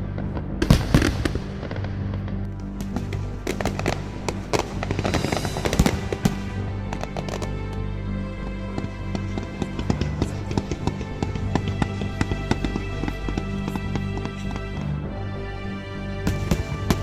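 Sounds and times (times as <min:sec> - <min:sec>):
music with held notes: 0:00.0 - 0:17.0
fireworks exploding: 0:00.2 - 0:07.8, 0:08.4 - 0:15.0, 0:16.2 - 0:17.0.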